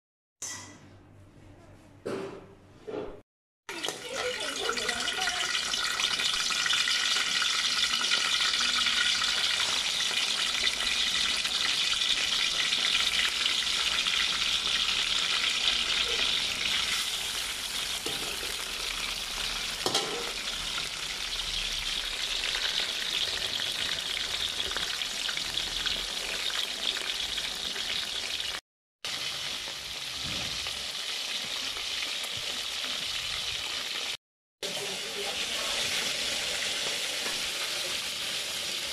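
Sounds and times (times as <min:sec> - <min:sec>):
fish sizzling in hot oil: 0:03.7 - 0:38.9.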